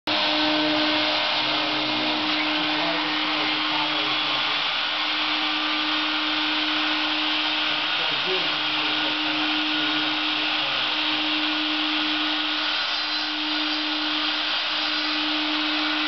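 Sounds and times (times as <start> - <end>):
electric motor whirring: 0.1 - 16.0.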